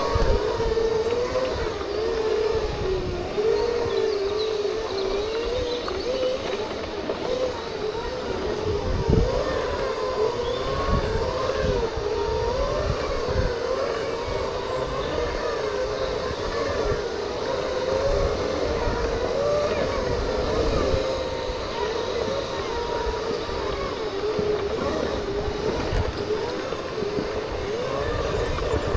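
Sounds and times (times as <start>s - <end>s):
electric drive whining: 0.0s - 28.9s.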